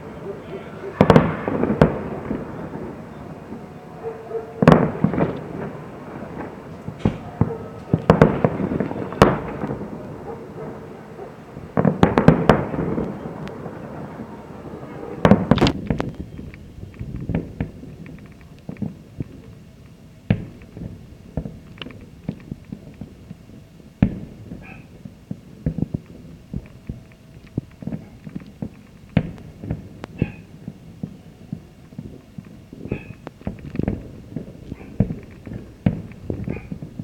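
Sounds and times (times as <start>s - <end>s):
firework shells bursting: 1.0s - 3.6s, 4.6s - 37.0s.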